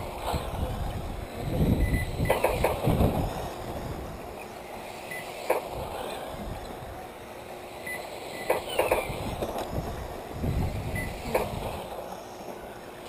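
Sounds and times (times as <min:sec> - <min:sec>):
rc car motors and tyres: 0:00.0 - 0:07.2, 0:07.8 - 0:13.0.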